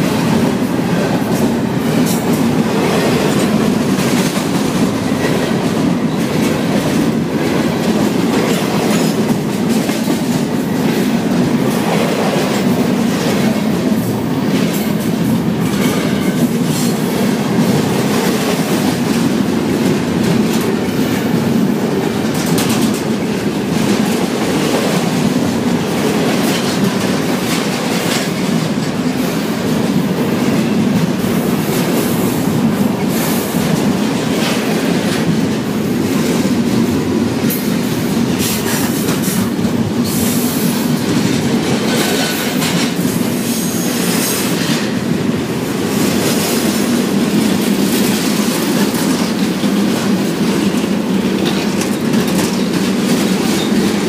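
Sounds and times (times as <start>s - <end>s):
steel wheels rumbling on rails: 0.0s - 54.0s.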